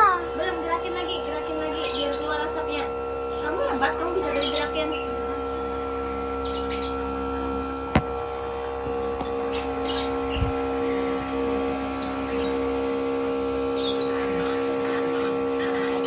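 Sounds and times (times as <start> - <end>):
nebulizer electric hum: 0.0 - 16.0.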